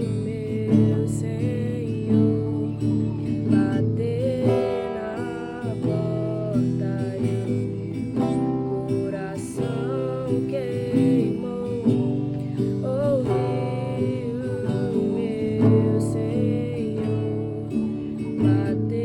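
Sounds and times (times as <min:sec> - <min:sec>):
acoustic guitar instrumental: 0:00.0 - 0:19.0.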